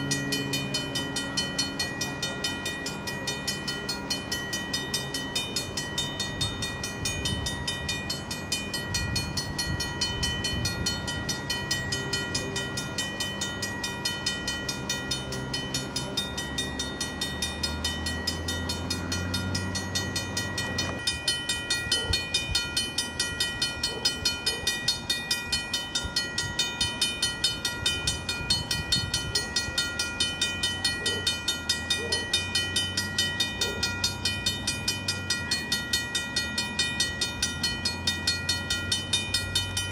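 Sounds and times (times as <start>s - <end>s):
crossing warning bell ringing: 0.0s - 39.9s.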